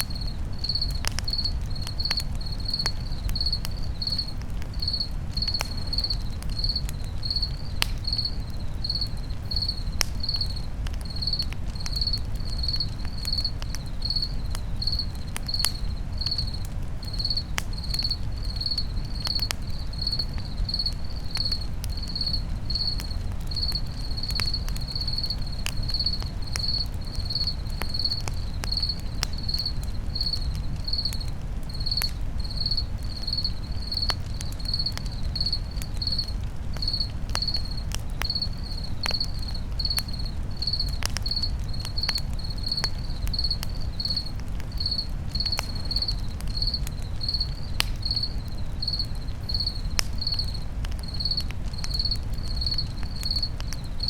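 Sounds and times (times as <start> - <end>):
campfire crackling and popping: 0.0 - 54.0
cricket chirping: 0.0 - 54.0.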